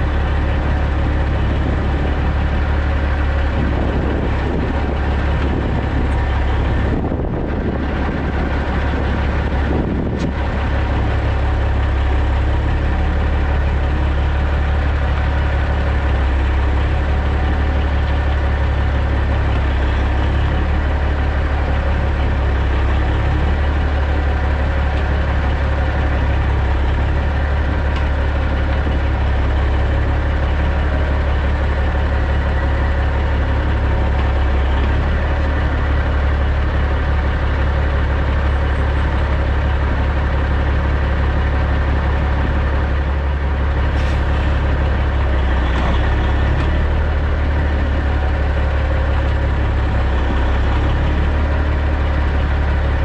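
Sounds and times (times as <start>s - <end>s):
diesel truck engine idling: 0.0s - 53.0s.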